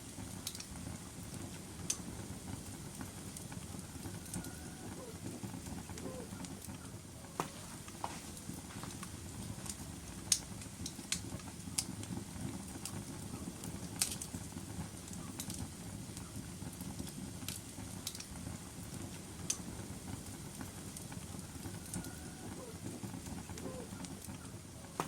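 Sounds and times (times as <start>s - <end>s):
fire crackles and pops: 0.0s - 25.0s
low rumble of flames: 0.0s - 25.0s.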